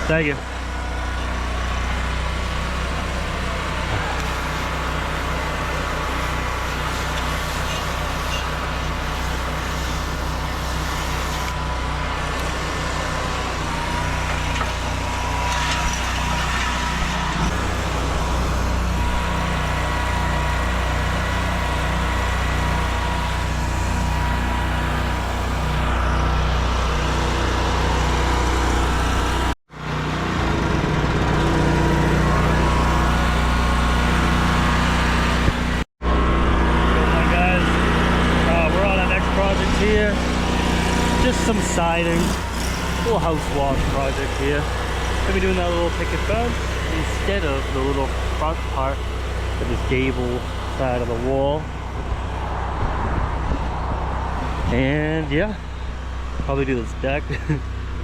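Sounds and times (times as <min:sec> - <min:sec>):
pressure washer engine running: 0:00.0 - 0:58.0.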